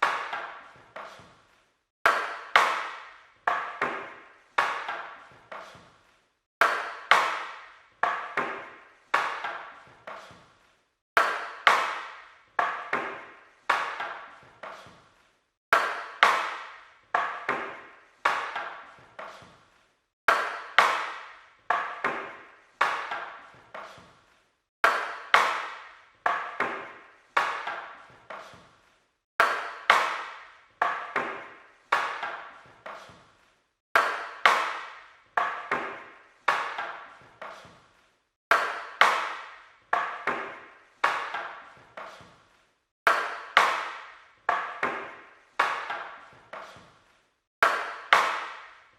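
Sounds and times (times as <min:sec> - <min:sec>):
wooden weapons clacking: 0:00.0 - 0:01.4, 0:02.1 - 0:05.8, 0:06.6 - 0:10.4, 0:11.2 - 0:15.0, 0:15.8 - 0:19.6, 0:20.3 - 0:24.1, 0:24.9 - 0:28.7, 0:29.4 - 0:33.3, 0:34.0 - 0:37.8, 0:38.5 - 0:42.4, 0:43.1 - 0:48.8.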